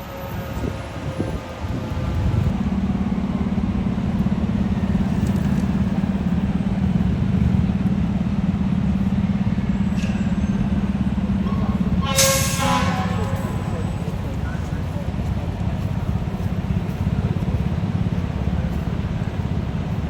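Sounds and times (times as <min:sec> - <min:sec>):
fire truck diesel engine running: 0:00.0 - 0:20.0
street traffic: 0:00.0 - 0:20.0.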